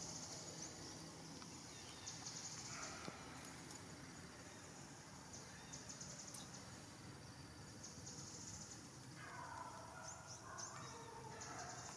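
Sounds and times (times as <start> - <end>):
insects buzzing in high trills: 0.0 - 11.9.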